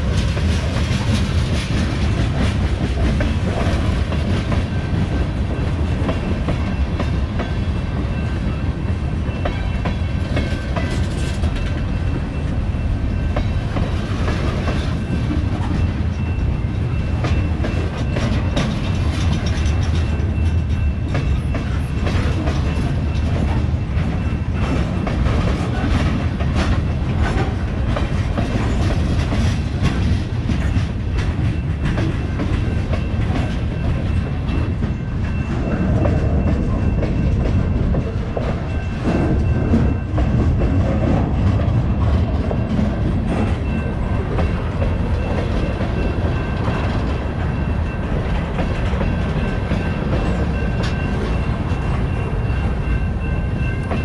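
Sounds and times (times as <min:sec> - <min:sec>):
freight train rumbling: 0:00.0 - 0:54.0
wheels clickety-clack on rails: 0:00.0 - 0:54.0.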